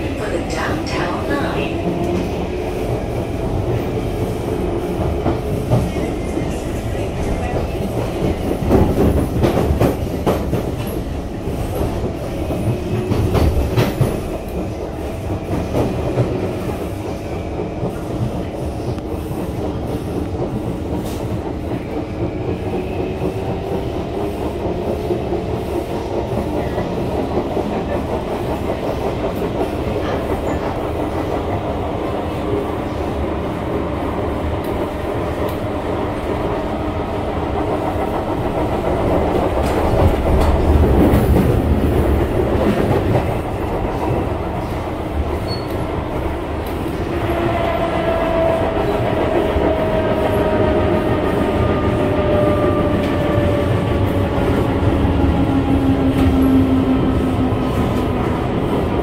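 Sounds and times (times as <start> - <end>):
train drive hum: 0.0 - 59.0
train wheels rumbling on rail: 0.0 - 59.0.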